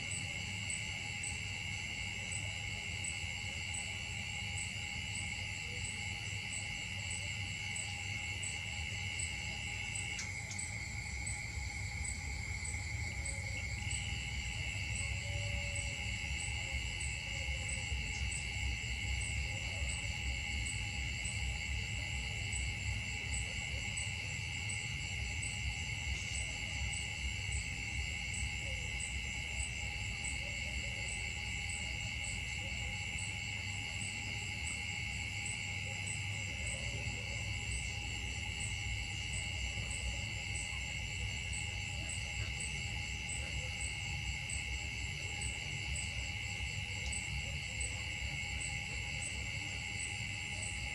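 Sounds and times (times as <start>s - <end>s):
insect chorus: 0.0s - 50.9s.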